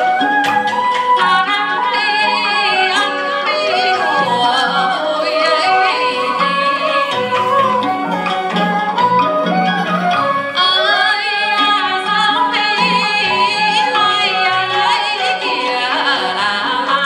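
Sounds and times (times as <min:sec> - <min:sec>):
high melody with vibrato: 0:00.0 - 0:17.0
traditional ensemble music: 0:00.0 - 0:17.0.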